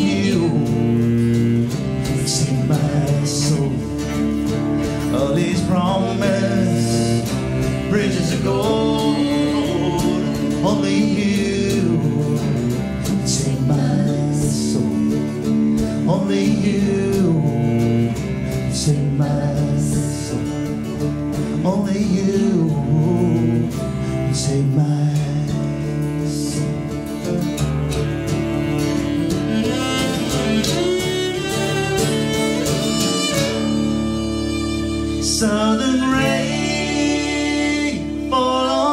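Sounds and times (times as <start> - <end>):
bowed cello: 0.0 - 38.9
strummed acoustic guitar: 0.0 - 38.9.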